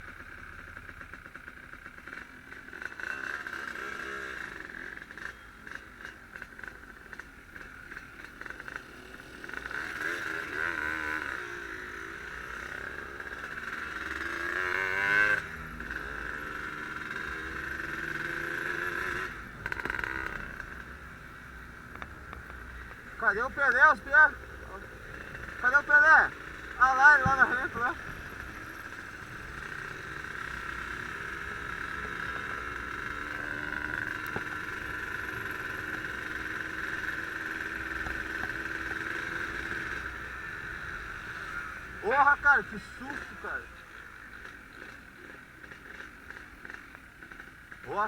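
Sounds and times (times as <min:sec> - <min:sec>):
two-stroke motorcycle engine revving: 0:00.0 - 0:48.0.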